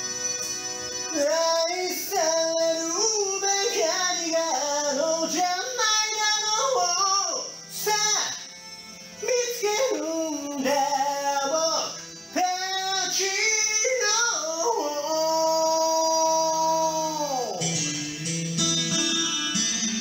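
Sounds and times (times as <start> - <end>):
guitar backing track: 0.0 - 20.0
man singing: 1.1 - 8.5, 9.2 - 17.8.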